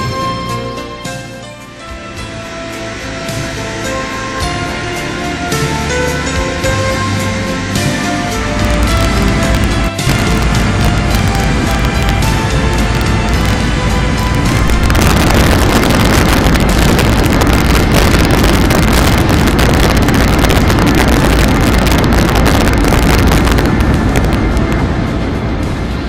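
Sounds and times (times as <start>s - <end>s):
jet engines roaring: 1.8s - 26.0s.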